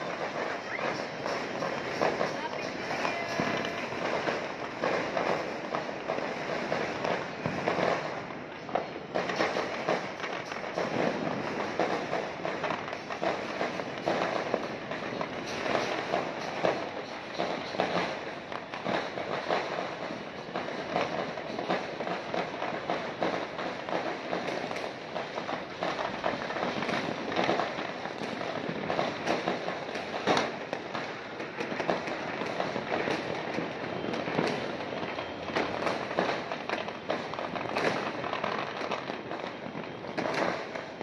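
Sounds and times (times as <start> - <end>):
fireworks crackling and popping: 0.0 - 41.0
sharp firework bangs: 0.0 - 41.0.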